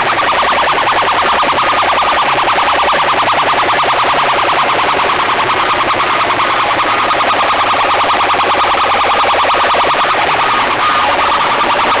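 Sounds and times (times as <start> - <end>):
distorted pulsing siren-like tone: 0.0 - 12.0.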